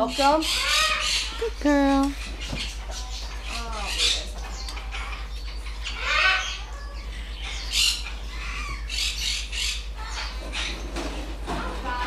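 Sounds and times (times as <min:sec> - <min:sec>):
parrot calls: 0:00.1 - 0:11.0.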